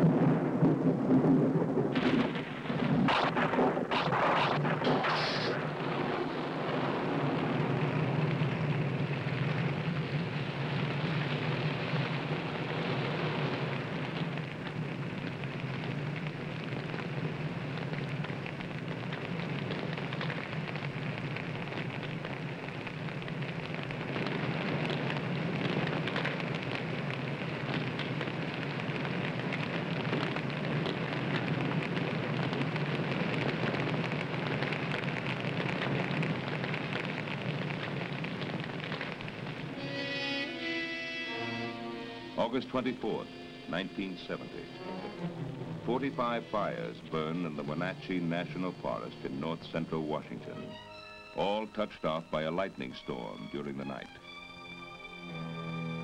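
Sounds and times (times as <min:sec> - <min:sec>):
fire flames rushing: 0:00.0 - 0:39.8, 0:42.2 - 0:50.8
fire crackling: 0:00.0 - 0:56.0.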